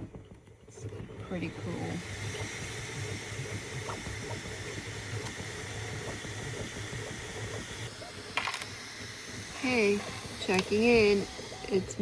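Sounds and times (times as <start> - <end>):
printer motor hum: 0.8 - 12.0
fan hiss: 1.3 - 12.0.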